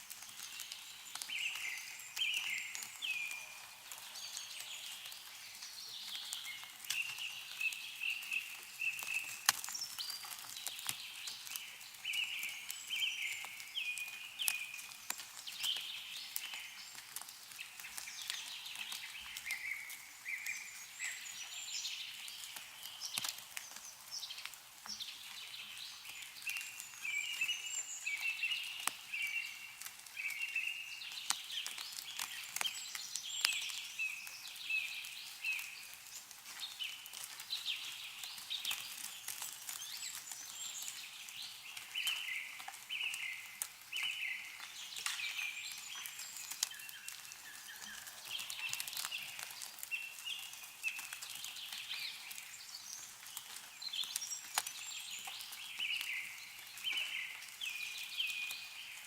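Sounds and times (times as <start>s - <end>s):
meltwater dripping: 0.0s - 59.0s
snow falling from trees: 0.0s - 59.0s
songbirds chirping: 0.0s - 59.0s.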